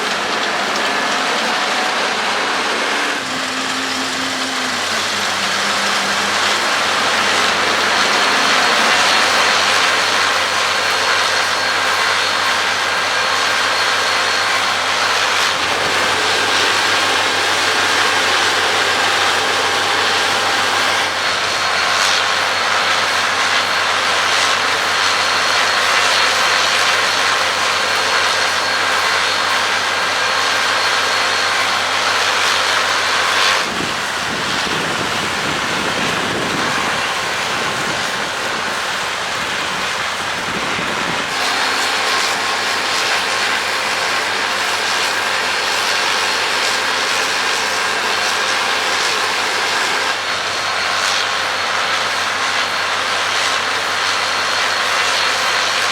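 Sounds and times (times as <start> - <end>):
combine harvester droning: 0.0 - 55.9.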